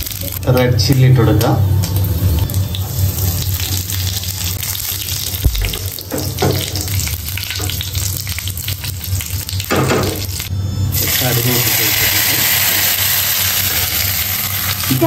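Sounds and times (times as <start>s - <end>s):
spices sizzling and popping in oil: 0.0s - 10.5s, 11.7s - 15.0s.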